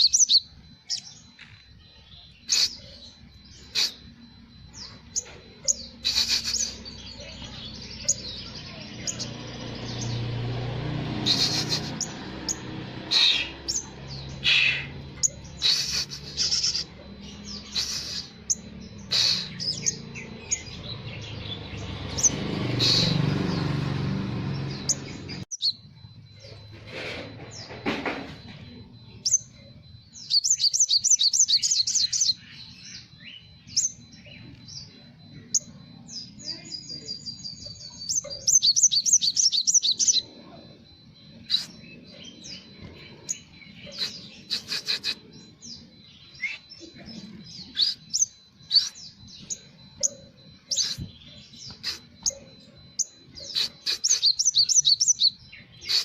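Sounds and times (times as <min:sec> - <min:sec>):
bird singing with trills: 0:00.0 - 0:56.0.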